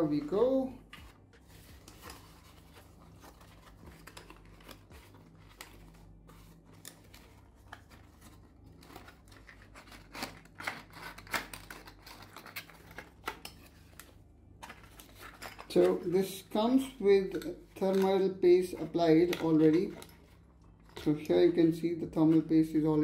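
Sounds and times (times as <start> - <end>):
packaging rustling: 0.0 - 22.8.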